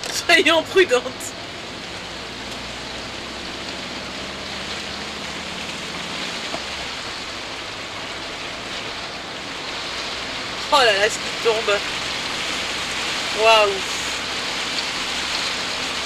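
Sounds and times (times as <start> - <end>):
heavy rain on a windscreen: 0.0 - 16.0
low engine drone: 0.0 - 16.0
tyres on wet road: 0.0 - 16.0.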